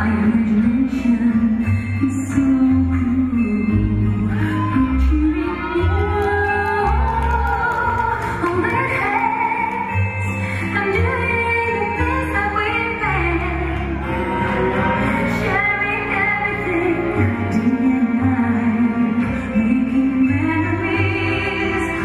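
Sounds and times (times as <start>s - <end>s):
ballroom dance music with singing: 0.0s - 22.0s.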